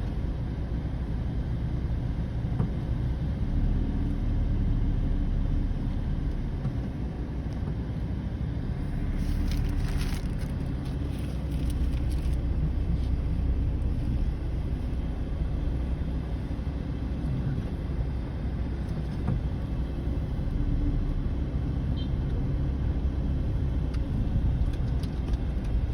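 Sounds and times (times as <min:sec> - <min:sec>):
road traffic rumble: 0:00.0 - 0:25.9.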